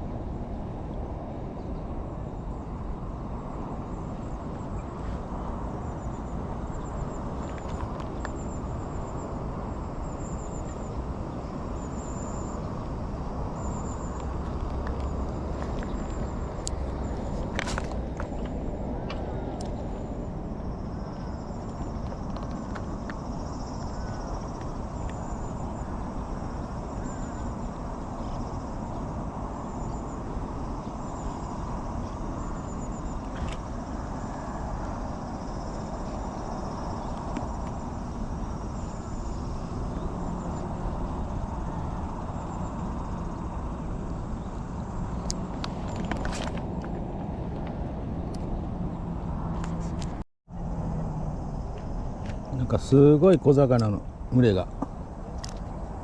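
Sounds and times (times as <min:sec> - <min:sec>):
outdoor background rush: 0:00.0 - 0:56.0.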